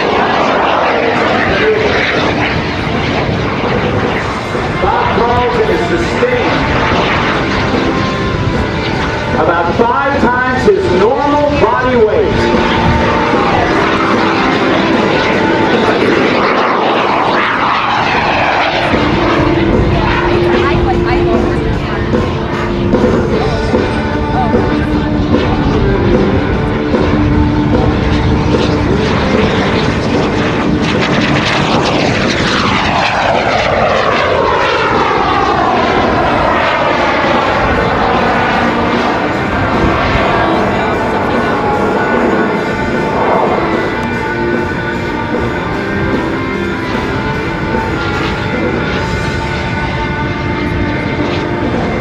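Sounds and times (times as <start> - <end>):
small jet engine rushing: 0.0 - 52.0.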